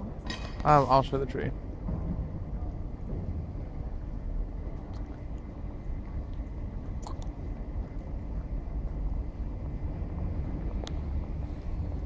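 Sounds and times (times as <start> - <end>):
faint street ambience: 0.0 - 12.0
wind rumbling on microphone: 1.5 - 12.0.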